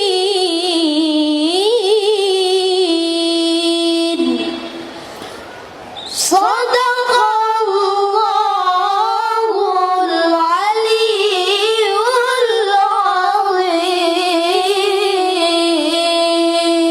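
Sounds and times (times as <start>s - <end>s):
young voice reciting melodically: 0.0s - 4.8s, 6.2s - 16.9s.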